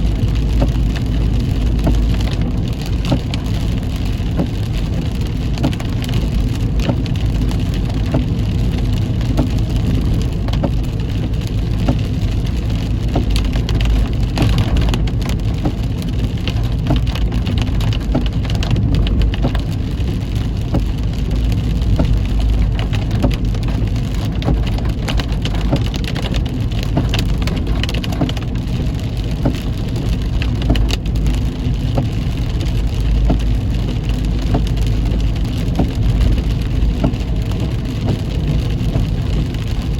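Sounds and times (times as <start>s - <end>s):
heavy rain pattering on car: 0.0s - 39.9s
road and engine rumble: 0.0s - 39.9s.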